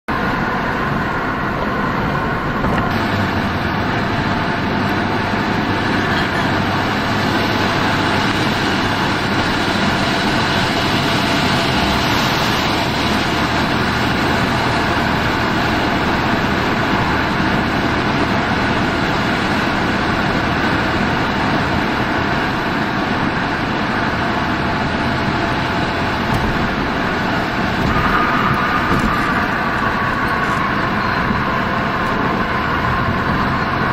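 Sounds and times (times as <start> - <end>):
car road noise at highway speed: 0.0 - 33.9.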